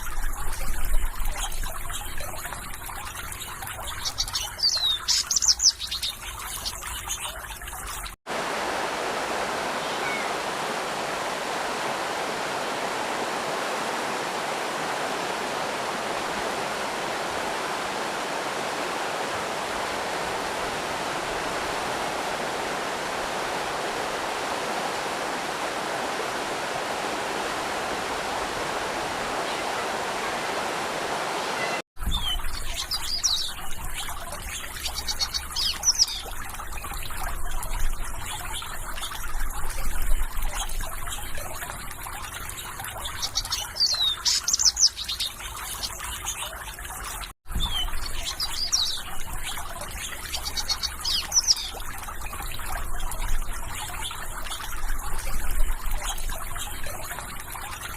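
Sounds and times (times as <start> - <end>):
water trickling: 0.0 - 57.9
birds chirping: 3.3 - 7.8, 9.1 - 36.5, 42.3 - 46.8, 47.5 - 57.9
rush of running water: 6.2 - 57.9.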